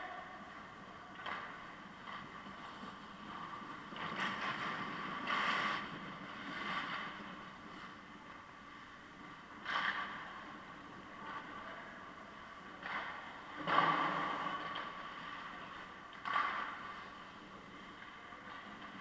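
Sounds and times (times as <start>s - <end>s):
hockey sticks and puck clacking: 0.5s - 8.4s, 9.5s - 10.6s, 12.7s - 19.0s.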